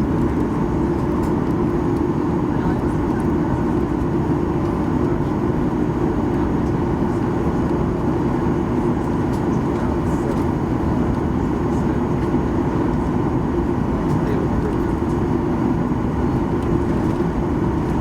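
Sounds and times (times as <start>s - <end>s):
jet engines idling in cabin: 0.0s - 18.0s.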